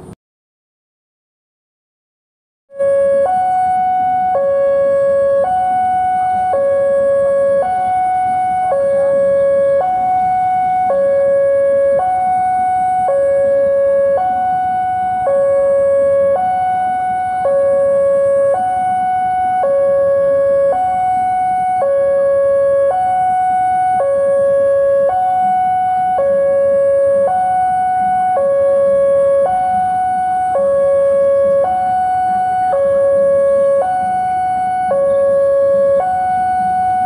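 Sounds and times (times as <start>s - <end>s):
level crossing two-tone alarm: 2.7s - 37.0s.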